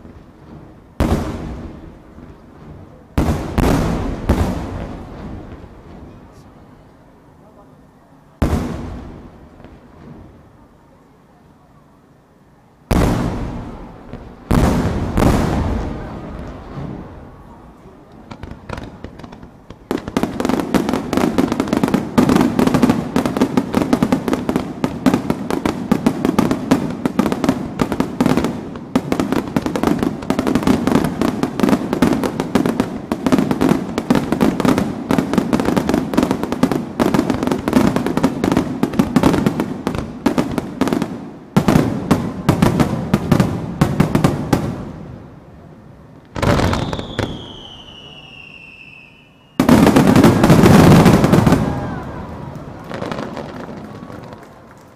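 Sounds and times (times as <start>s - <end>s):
fireworks bangs: 0.0s - 54.9s
fireworks bursts and crackling: 0.0s - 54.9s.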